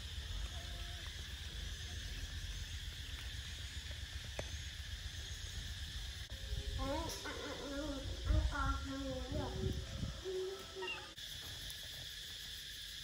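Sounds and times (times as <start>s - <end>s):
insect hum: 0.0s - 13.0s.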